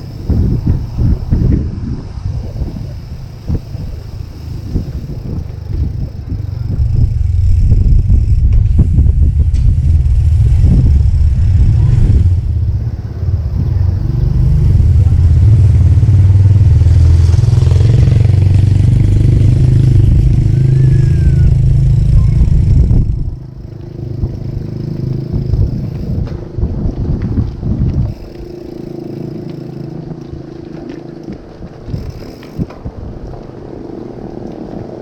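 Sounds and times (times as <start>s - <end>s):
passing motor traffic: 0.0s - 35.0s
wind buffeting microphone: 0.0s - 35.0s.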